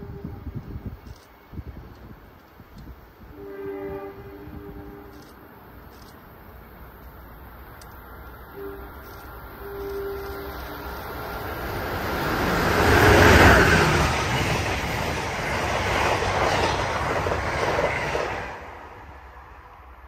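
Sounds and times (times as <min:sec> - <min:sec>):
train passing on rails: 0:00.0 - 0:20.0.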